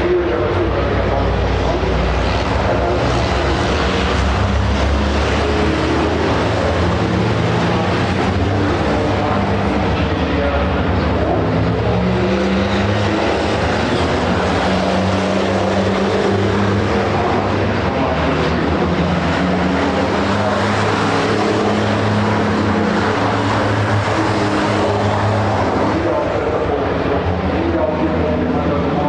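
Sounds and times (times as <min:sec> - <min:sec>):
diesel truck engines droning: 0:00.0 - 0:29.0.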